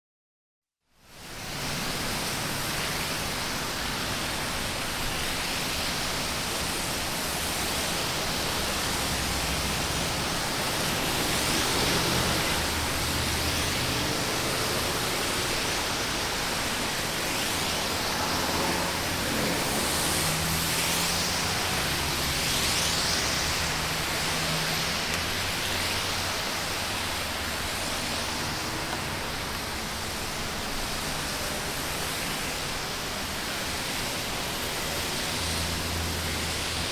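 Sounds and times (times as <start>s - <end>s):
tyres swishing on wet road: 1.1s - 36.9s.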